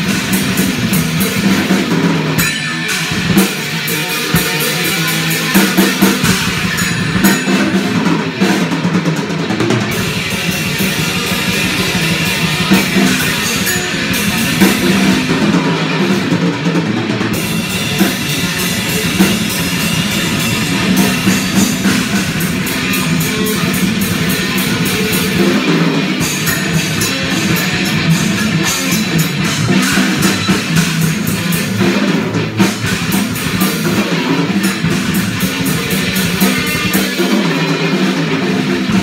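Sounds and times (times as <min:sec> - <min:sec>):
crashing cymbals: 0:00.0 - 0:08.7, 0:09.9 - 0:16.4, 0:17.4 - 0:38.0
rock band playing: 0:00.0 - 0:39.0.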